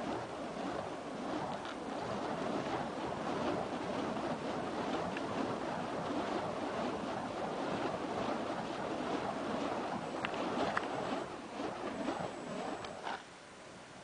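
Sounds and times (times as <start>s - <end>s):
fire poi whooshing: 0.0s - 13.2s.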